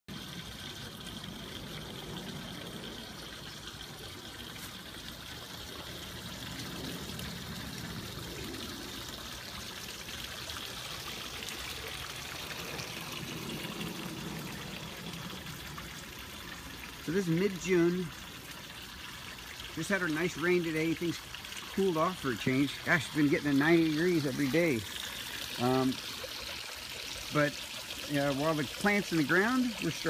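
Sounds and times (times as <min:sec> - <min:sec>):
water trickling: 0:00.1 - 0:30.0.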